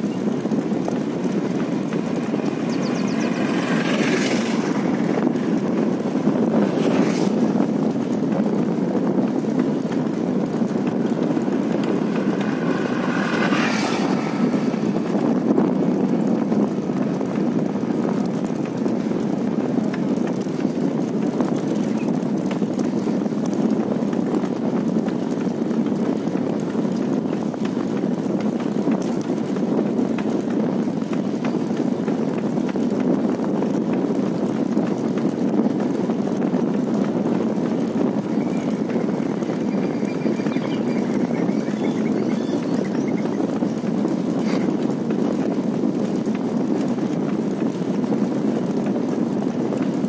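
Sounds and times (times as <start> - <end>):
road rumble: 0.0 - 50.0
wind on microphone: 0.0 - 50.0.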